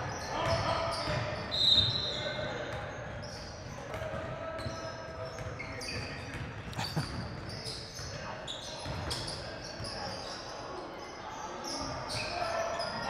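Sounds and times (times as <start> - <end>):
sneakers squeaking on floor: 0.0 - 13.0.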